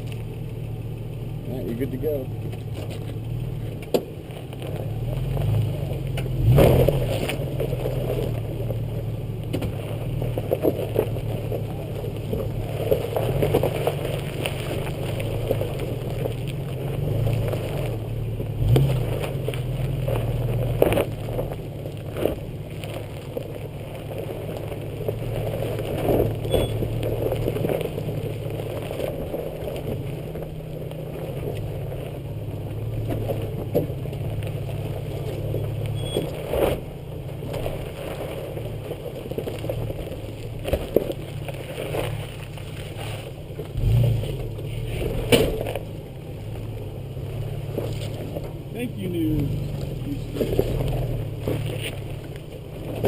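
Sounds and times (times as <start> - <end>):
off-road vehicle engine running: 0.0 - 53.0
tyres crunching on stone: 2.0 - 53.0.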